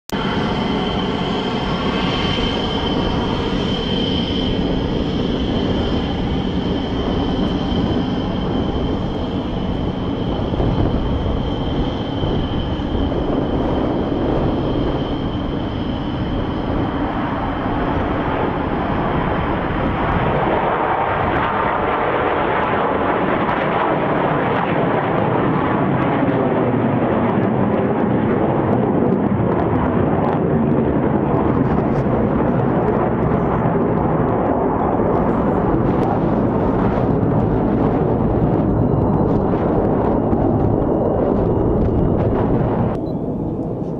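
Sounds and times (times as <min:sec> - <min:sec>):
high turbine whine: 0:00.1 - 0:43.9
jet engines rumbling: 0:00.1 - 0:43.9.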